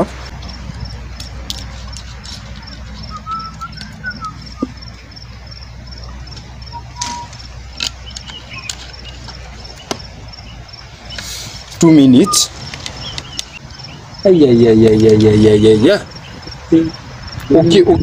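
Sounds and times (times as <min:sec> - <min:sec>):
insects chirping: 0:00.0 - 0:18.0
bird notes: 0:01.9 - 0:16.5.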